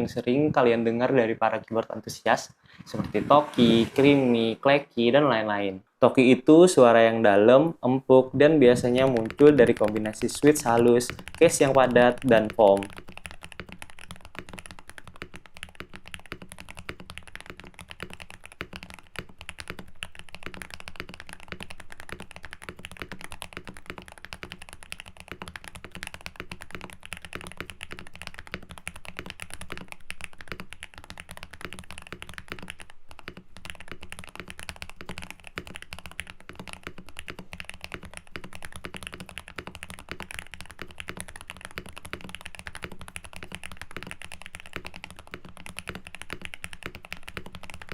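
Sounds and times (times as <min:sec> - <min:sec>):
typing on mechanical keyboard: 0:08.6 - 0:47.9.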